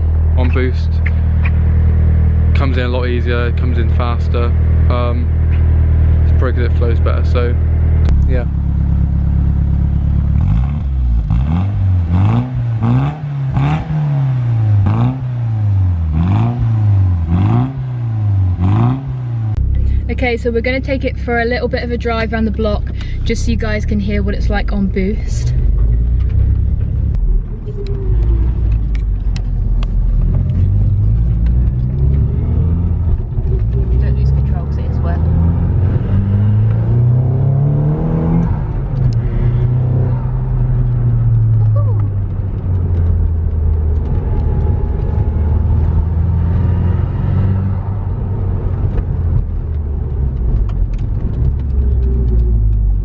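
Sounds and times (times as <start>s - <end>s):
turbocharged car engine: 0.0s - 53.0s.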